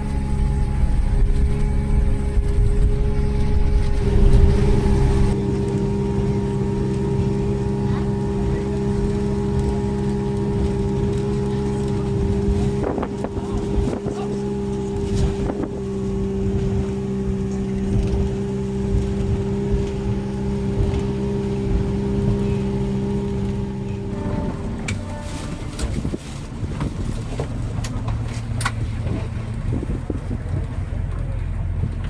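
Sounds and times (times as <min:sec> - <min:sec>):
diesel engines droning: 0:00.0 - 0:32.0.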